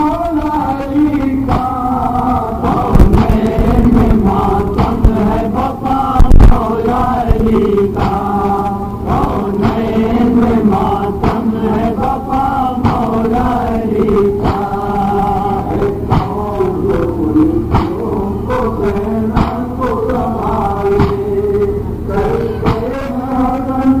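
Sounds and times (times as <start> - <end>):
men chanting: 0.0 - 24.0.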